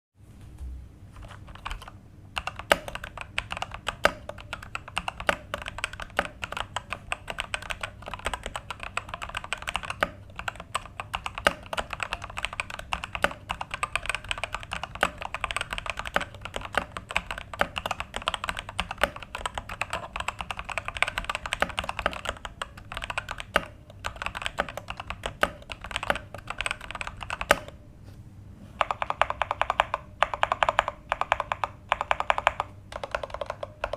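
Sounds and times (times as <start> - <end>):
mechanical keyboard typing: 1.2 - 27.8, 28.8 - 33.9.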